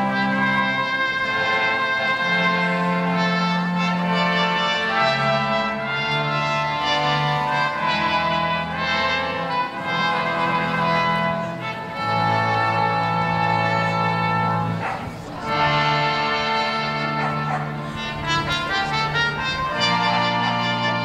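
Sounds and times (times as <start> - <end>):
slow brass orchestral chords: 0.0 - 21.0.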